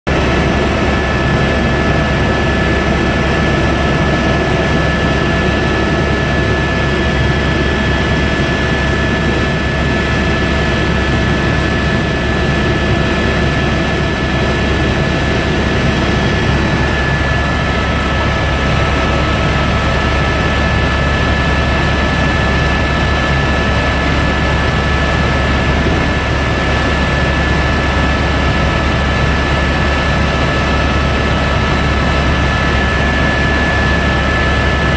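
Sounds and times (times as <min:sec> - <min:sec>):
helicopter engine and rotor noise: 0:00.1 - 0:34.9.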